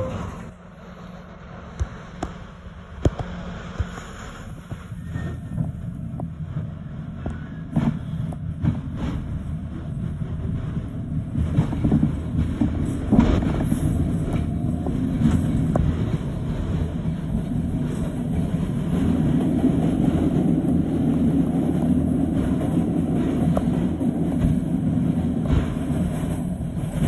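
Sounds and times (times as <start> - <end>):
passing train: 0.0 - 27.0
train wheels rumbling on rails: 0.0 - 27.0.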